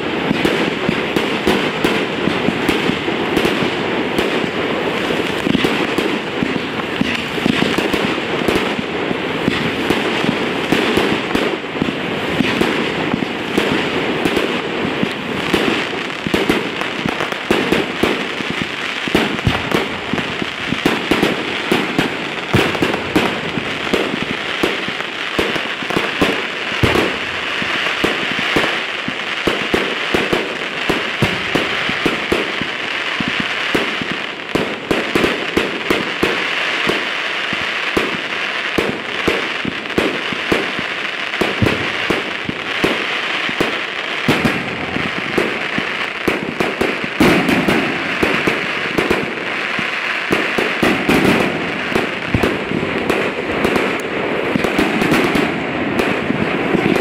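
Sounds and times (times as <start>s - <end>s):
fireworks barrage: 0.0s - 57.0s.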